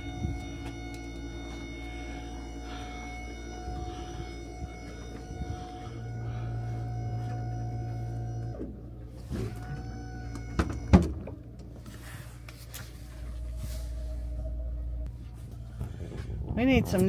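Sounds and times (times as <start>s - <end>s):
crane motor humming: 0.0s - 17.0s.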